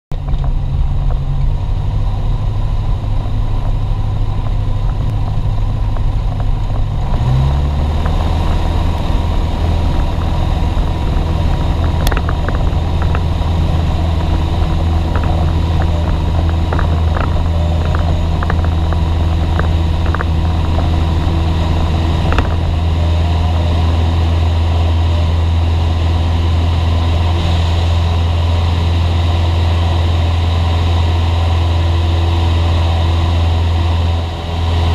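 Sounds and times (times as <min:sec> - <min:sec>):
aircraft engine drone: 0:00.1 - 0:34.9.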